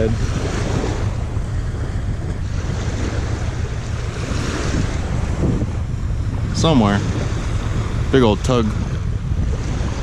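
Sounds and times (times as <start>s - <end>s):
waves washing on shore: 0.0s - 10.0s
wind buffeting microphone: 0.0s - 10.0s.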